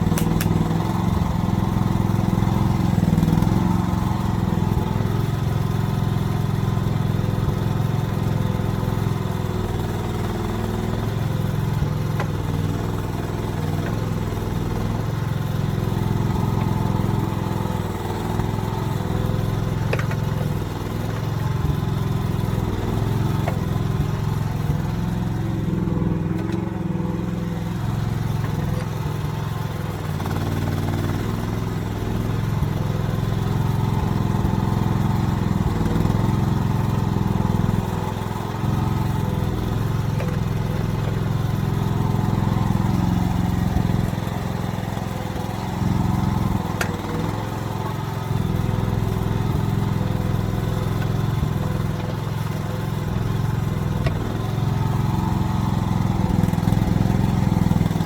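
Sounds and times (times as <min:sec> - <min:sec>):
mini excavator engine running: 0:00.0 - 0:58.0.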